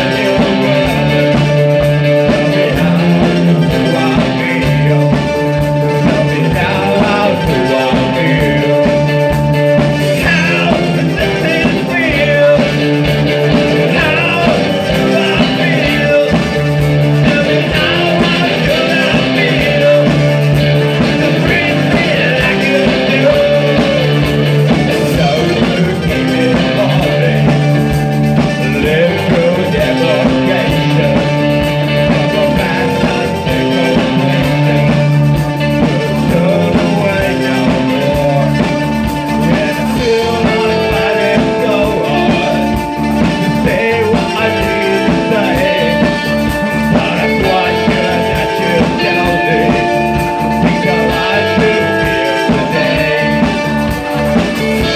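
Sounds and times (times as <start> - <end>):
bass guitar: 0.0 - 54.9
drum kit beat: 0.0 - 54.9
electric guitars: 0.0 - 54.9
lead vocals singing: 0.0 - 54.9.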